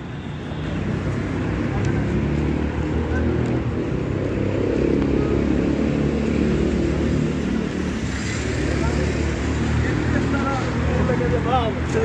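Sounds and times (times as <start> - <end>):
car engines in traffic: 0.0 - 12.0.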